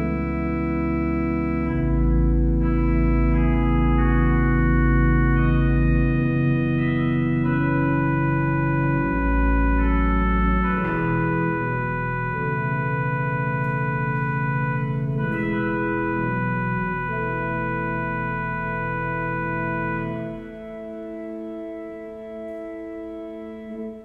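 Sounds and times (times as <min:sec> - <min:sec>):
deep organ pedal notes: 0:00.0 - 0:24.0
organ chords: 0:00.0 - 0:24.0.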